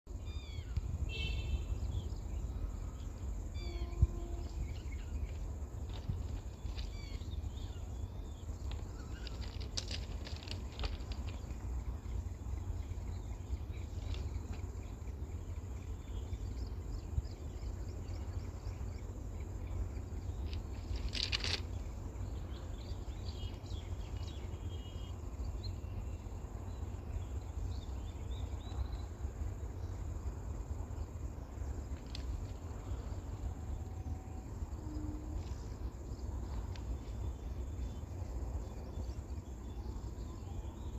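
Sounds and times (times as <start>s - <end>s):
birds chirping: 0.1s - 40.9s
insects calling: 0.1s - 40.9s
steady low rumble: 0.1s - 40.9s.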